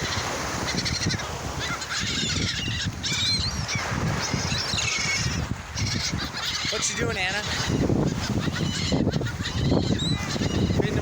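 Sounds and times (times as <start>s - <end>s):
gulls squawking: 0.0s - 11.0s.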